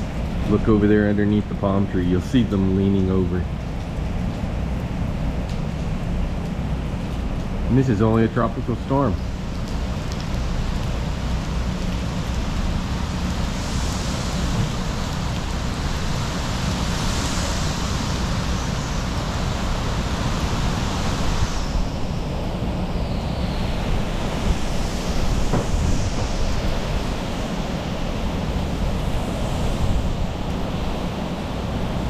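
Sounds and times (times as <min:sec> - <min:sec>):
hissing wind gusts with rain: 0:00.0 - 0:32.0
wind buffeting microphone: 0:00.0 - 0:32.0.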